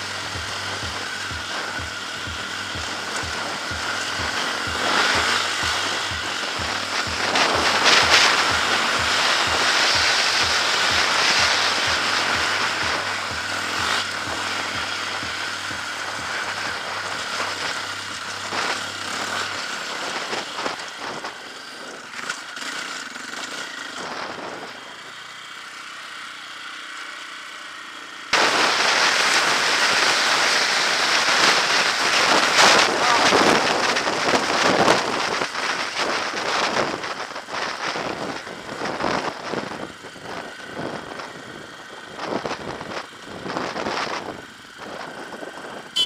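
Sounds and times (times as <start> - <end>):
wind rush on microphone: 0.0 - 22.6, 24.0 - 25.0, 28.4 - 46.0
dirt bike engine running: 0.0 - 46.0.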